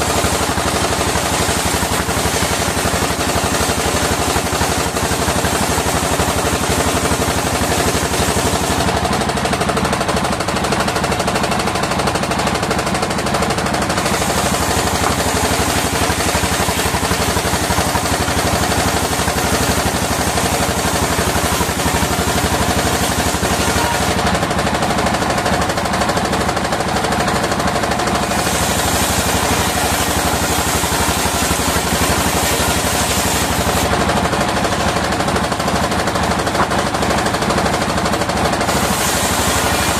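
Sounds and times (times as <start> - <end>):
circular saw mill engine knocking: 0.0 - 39.9.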